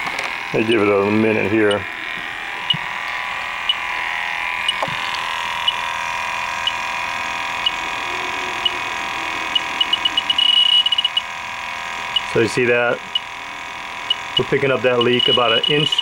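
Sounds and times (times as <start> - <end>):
leak detector beeping: 0.0 - 16.0.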